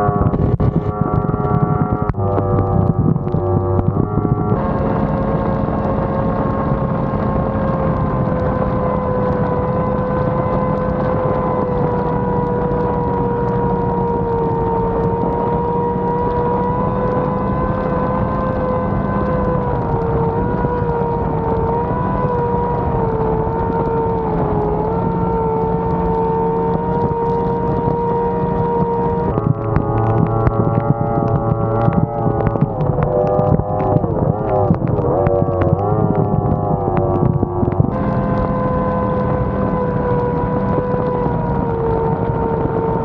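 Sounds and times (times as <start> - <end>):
speedboat engine at high revs: 0.0 - 43.0
steady rushing noise: 0.0 - 43.0.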